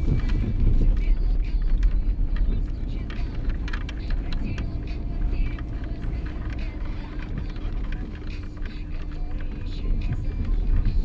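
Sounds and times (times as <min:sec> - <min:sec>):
car driving low rumble: 0:00.0 - 0:11.0
faint constant hum: 0:00.0 - 0:11.0
small knocks and rattles: 0:00.0 - 0:11.0.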